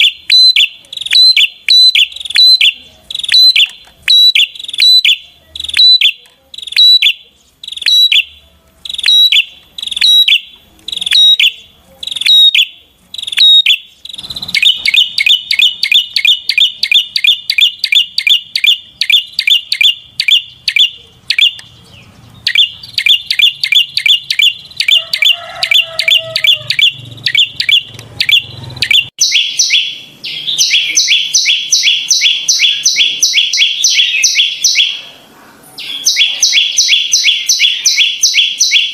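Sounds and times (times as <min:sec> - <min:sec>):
bird singing sharp high notes: 0:00.0 - 0:35.2.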